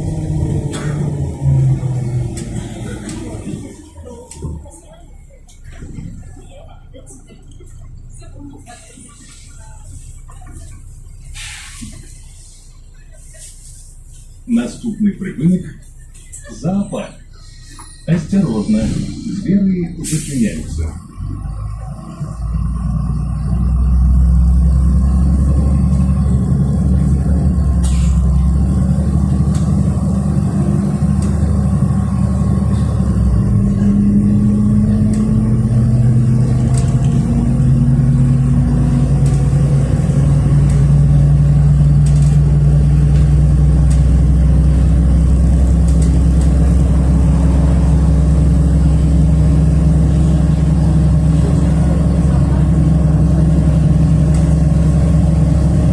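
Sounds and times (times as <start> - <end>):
bus engine accelerating: 0.0 - 55.9.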